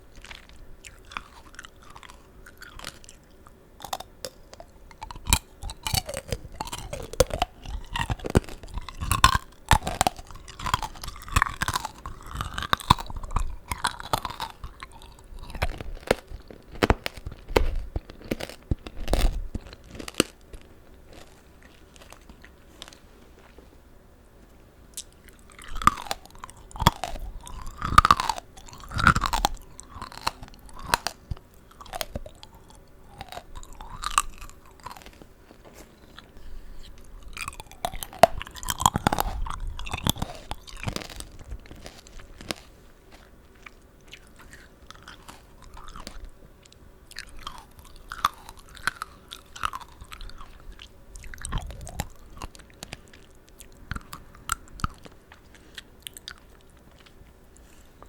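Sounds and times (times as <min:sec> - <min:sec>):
crunching hard candy: 0:00.0 - 0:23.5, 0:24.9 - 0:58.0.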